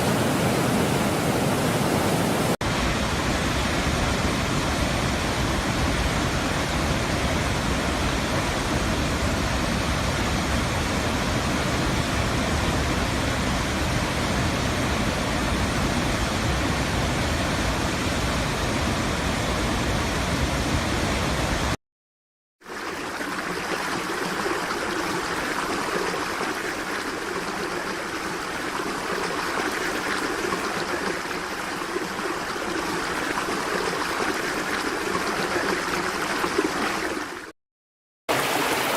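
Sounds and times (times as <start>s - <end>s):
rushing water with low rumble: 0.0s - 21.8s, 22.6s - 37.5s, 38.3s - 38.9s.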